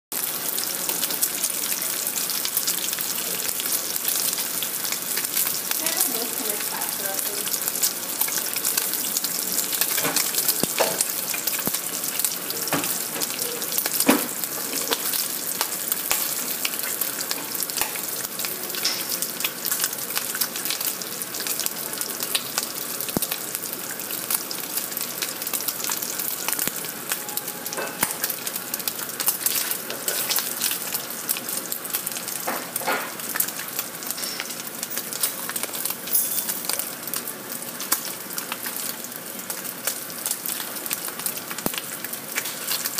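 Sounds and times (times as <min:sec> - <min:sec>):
bacon sizzling in a pan: 0:00.1 - 0:42.9.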